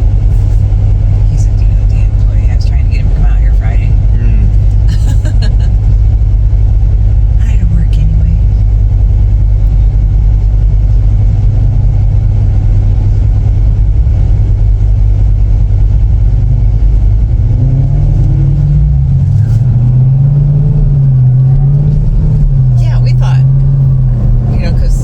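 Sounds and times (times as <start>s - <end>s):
car engine accelerating: 0.0s - 25.0s
heavy low rumble: 0.0s - 25.0s.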